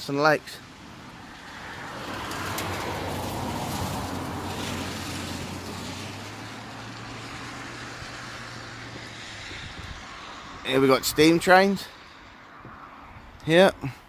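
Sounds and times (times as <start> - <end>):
road and tyre noise: 0.0 - 14.0
vehicle engine hum: 0.4 - 14.0.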